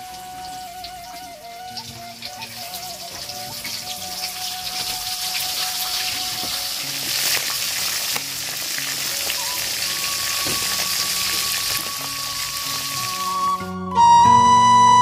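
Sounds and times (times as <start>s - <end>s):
fish frying in hot oil: 0.0s - 13.5s
oil popping: 0.0s - 14.0s.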